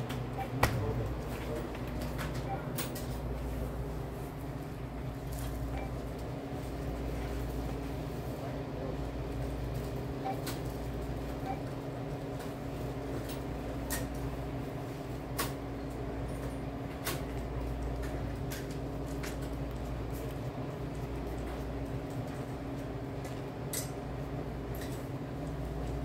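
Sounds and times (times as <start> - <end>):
machinery hum: 0.0 - 26.0.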